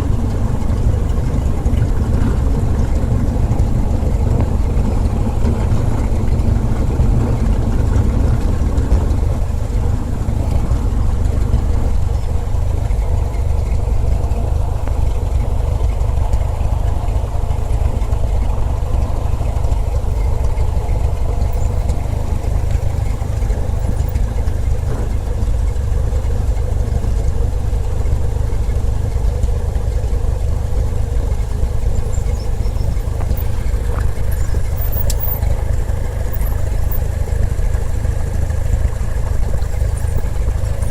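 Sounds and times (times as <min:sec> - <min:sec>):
propeller aircraft engine drone: 0:00.0 - 0:40.9.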